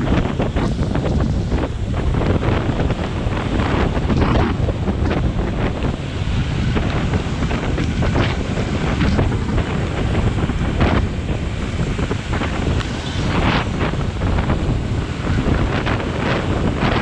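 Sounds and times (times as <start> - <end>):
rain hiss on wet road: 0.0 - 17.0
wind buffeting microphone: 0.0 - 17.0.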